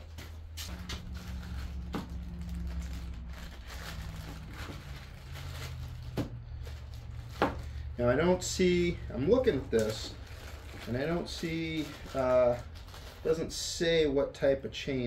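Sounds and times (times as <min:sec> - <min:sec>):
steady low hum: 0:00.0 - 0:12.1
plastic bag crinkling: 0:00.7 - 0:13.7.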